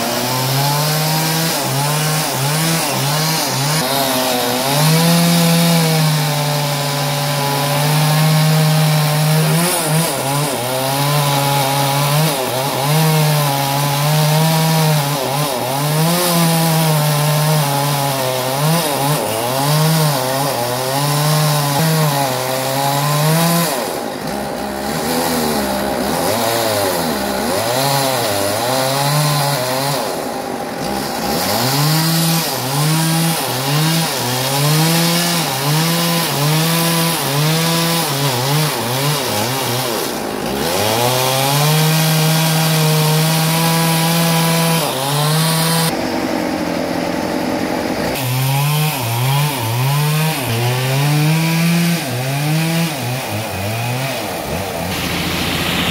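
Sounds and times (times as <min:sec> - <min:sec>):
chainsaw cutting a log: 0:00.0 - 0:55.9.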